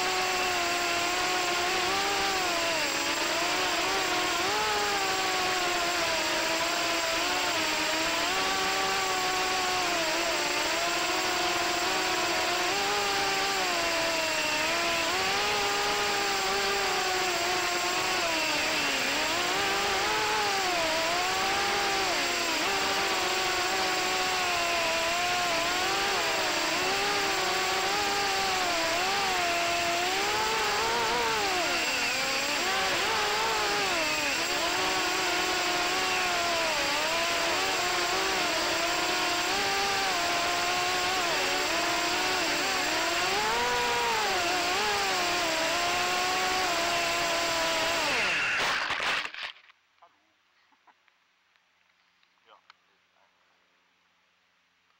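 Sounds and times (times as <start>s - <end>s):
drone motors whining: 0.0s - 49.7s.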